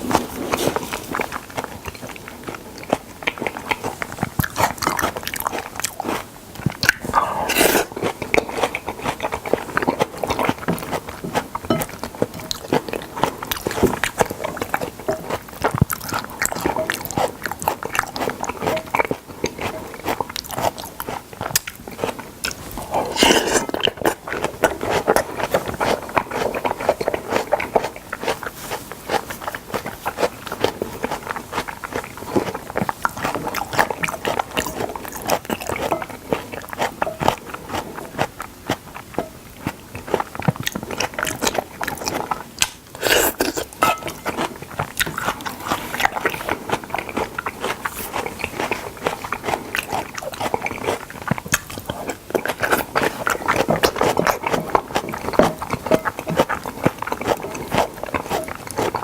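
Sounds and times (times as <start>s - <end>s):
biting and chewing food: 0.0s - 59.0s.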